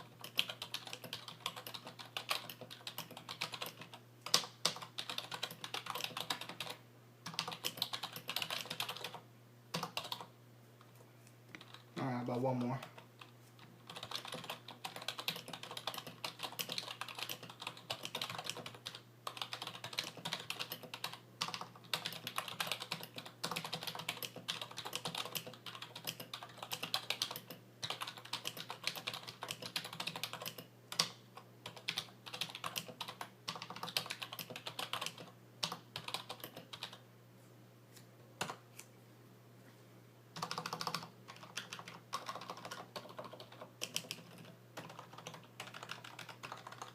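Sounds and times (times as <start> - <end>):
muted keyboard typing: 0.0 - 10.3, 11.5 - 37.0, 40.4 - 46.9.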